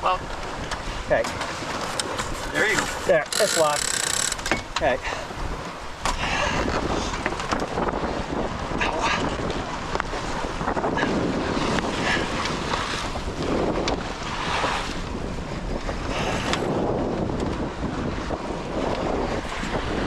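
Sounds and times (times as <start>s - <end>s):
water rushing along hull: 0.0s - 20.0s
wind buffeting microphone: 0.0s - 20.0s.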